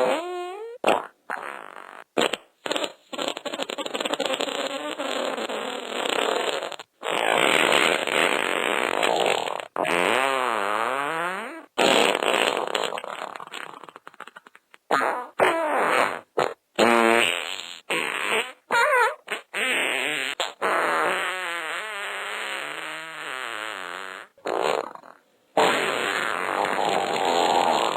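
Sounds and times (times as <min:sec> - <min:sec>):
fart sound effects: 0:00.0 - 0:27.9.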